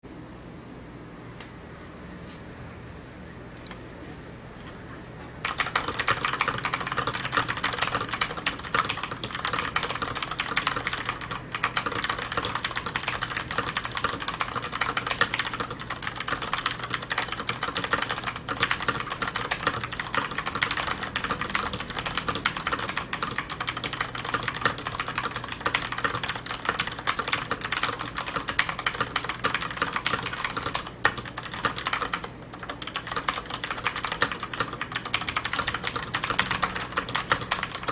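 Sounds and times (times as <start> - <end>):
fast typing on mechanical keyboard: 5.4 - 37.9.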